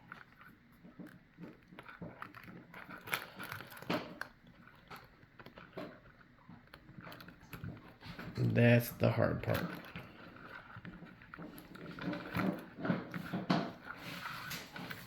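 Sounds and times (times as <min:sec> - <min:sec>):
plastic clicks and scraping: 0:00.0 - 0:15.0.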